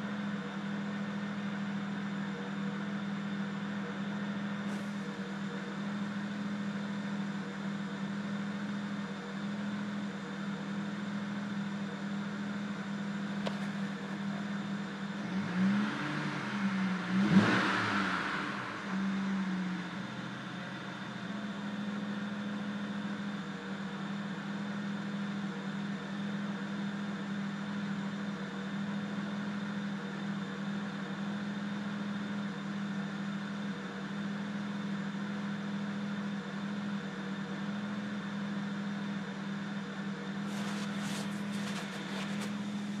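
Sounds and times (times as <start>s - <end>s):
car engine idling roughly: 0.0s - 43.0s.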